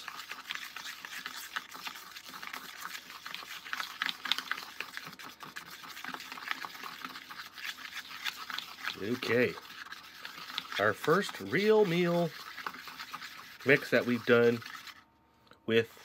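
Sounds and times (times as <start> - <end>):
plastic spoon scraping wet paste: 0.0 - 15.1.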